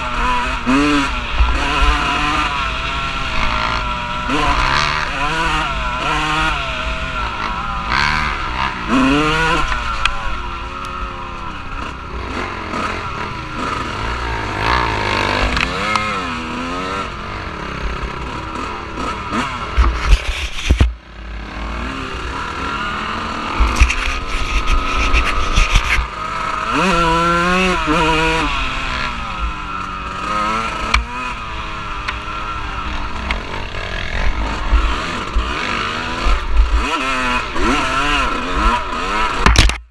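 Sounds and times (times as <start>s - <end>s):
off-road vehicle engine revving: 0.0s - 39.8s.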